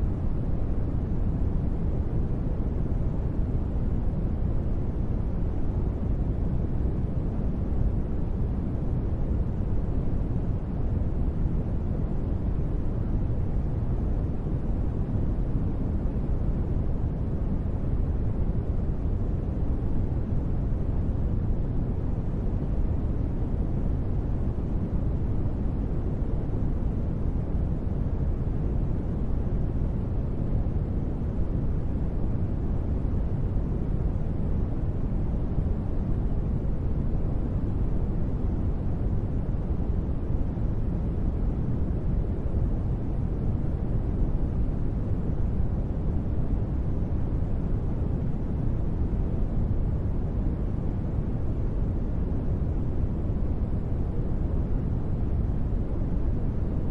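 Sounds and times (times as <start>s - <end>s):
deep white noise hush: 0.0s - 56.9s.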